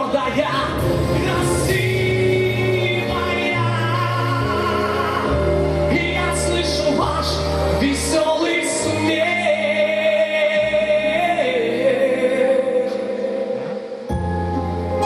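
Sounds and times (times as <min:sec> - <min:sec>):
pop song with backing music: 0:00.0 - 0:15.0.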